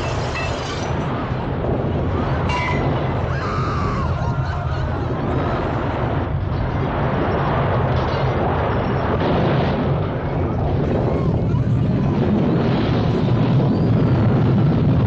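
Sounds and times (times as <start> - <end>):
deep earthquake rumble: 0.0 - 15.0.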